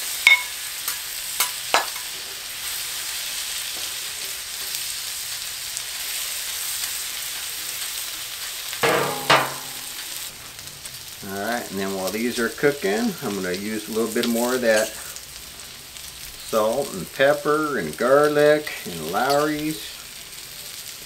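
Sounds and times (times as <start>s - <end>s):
potatoes sizzling on a griddle: 0.0s - 21.0s.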